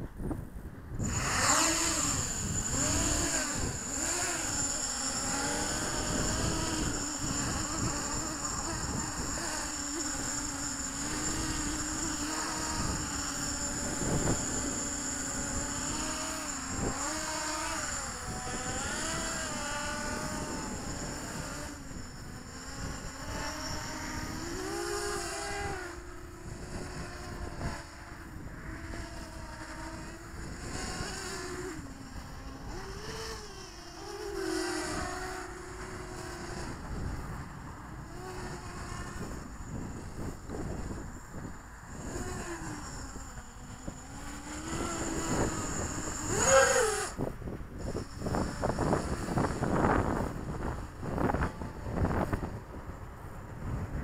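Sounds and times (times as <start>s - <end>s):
drone motors buzzing: 0.0s - 54.0s.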